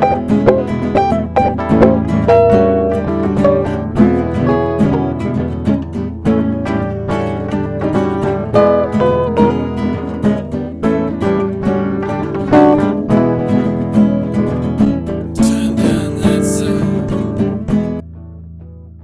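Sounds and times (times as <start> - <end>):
guitar plucked and strummed: 0.0 - 19.0.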